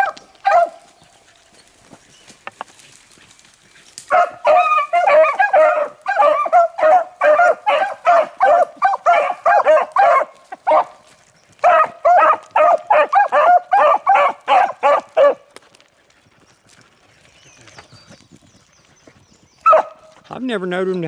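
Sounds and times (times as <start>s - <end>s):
dogs baying: 0.0s - 17.9s, 18.9s - 20.3s.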